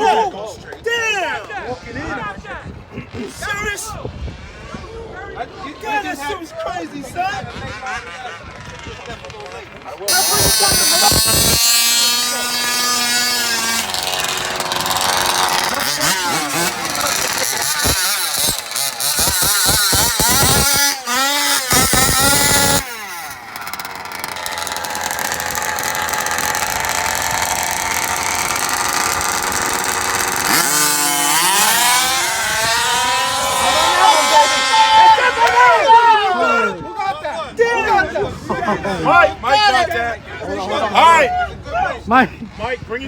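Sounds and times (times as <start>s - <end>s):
rc car engines revving: 0.8s - 36.7s.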